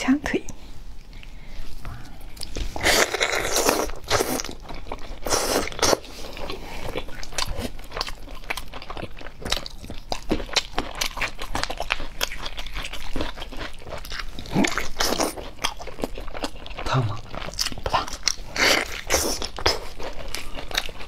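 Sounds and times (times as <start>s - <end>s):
chewing with wet mouth clicks: 2.3s - 21.0s.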